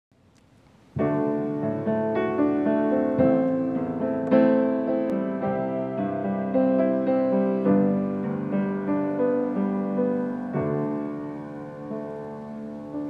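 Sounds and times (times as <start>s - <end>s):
grand piano playing: 0.9s - 13.0s.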